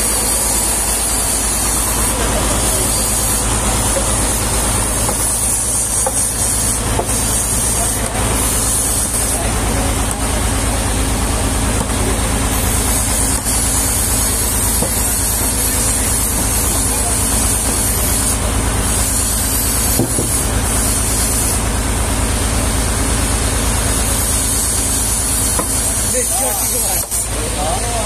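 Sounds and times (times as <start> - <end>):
sawmill engine throbbing: 0.0 - 28.0.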